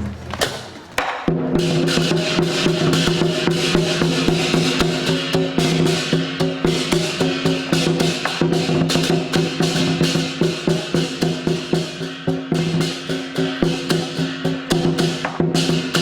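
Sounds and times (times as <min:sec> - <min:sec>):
drum beating: 0:00.0 - 0:16.0
cymbals crashing: 0:01.2 - 0:16.0.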